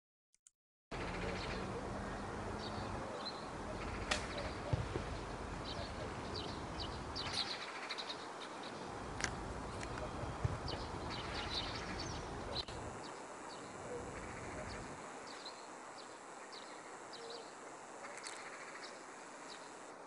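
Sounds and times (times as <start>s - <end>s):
small birds chirping: 1.0s - 20.0s.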